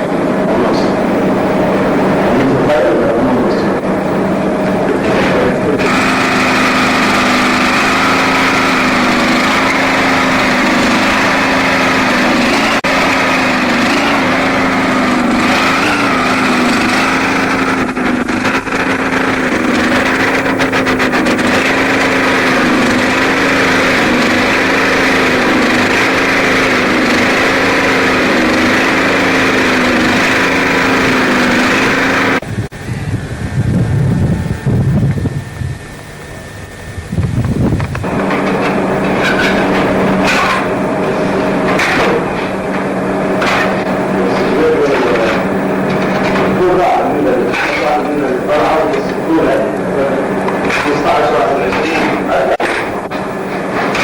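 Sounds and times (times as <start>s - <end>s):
motor-driven machine humming: 0.0s - 54.0s.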